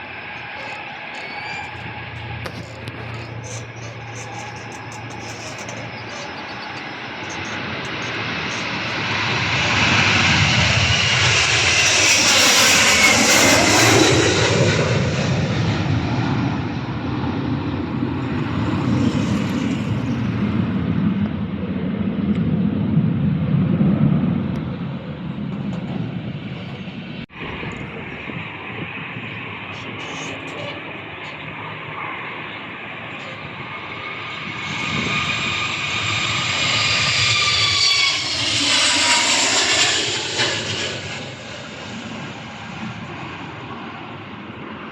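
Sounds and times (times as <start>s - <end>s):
airliner engines passing overhead: 0.0s - 44.9s.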